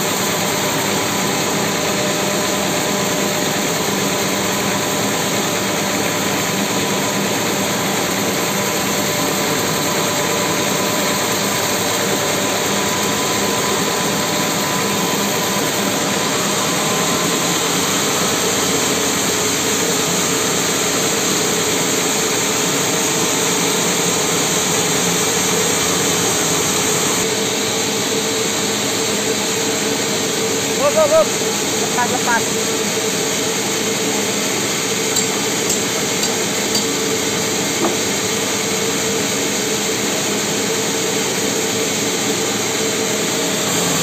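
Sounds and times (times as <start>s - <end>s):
band sawmill sawing log: 0.0s - 44.0s.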